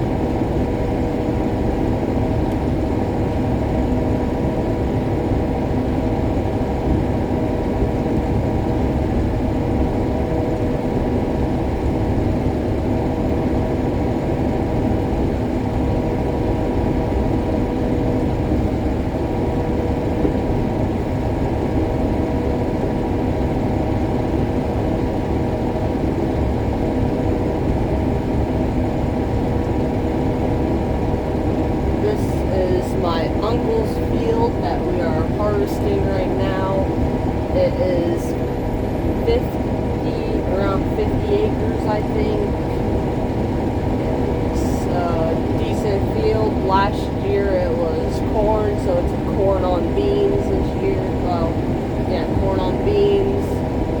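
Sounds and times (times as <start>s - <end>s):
combine harvester engine drone: 0.0s - 54.0s
machinery whine: 0.0s - 54.0s.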